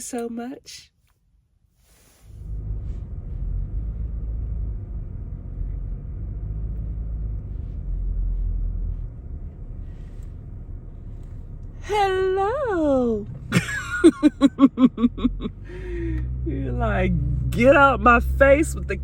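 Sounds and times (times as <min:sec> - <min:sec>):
car road rumble: 0:01.8 - 0:19.0.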